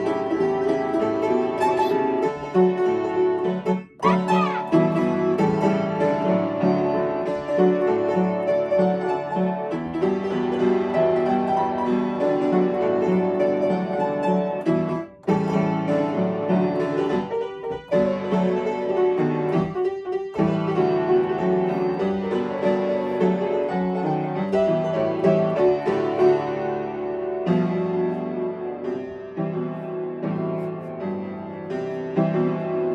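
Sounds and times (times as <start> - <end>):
upright piano playing: 0.0 - 32.9.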